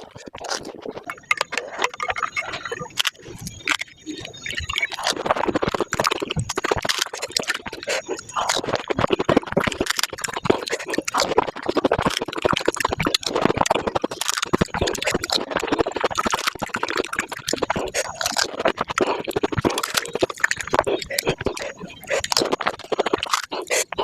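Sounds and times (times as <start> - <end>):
crisp crunching of chewing: 0.0 - 24.0
mouth noises: 0.0 - 24.0.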